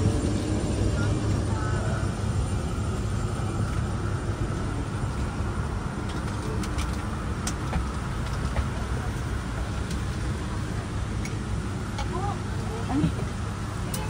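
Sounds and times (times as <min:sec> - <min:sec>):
jet airliner rumble and hiss: 0:00.0 - 0:14.0.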